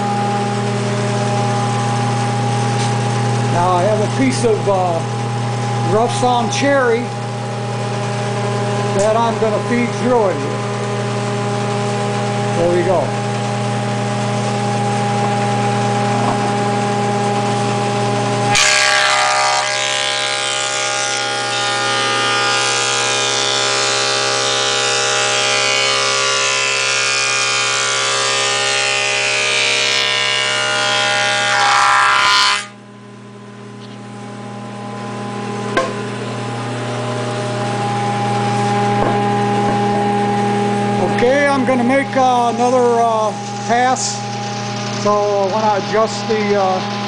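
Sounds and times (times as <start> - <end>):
planer cutting wood: 0.0 - 32.8, 35.7 - 47.0
planer motor humming: 0.0 - 32.8, 34.0 - 47.0.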